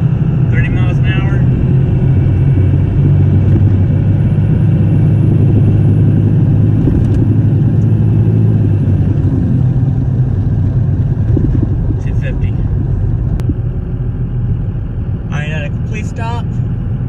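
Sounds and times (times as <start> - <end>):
diesel engine drone: 0.0 - 17.0
road and wind noise: 0.0 - 17.0.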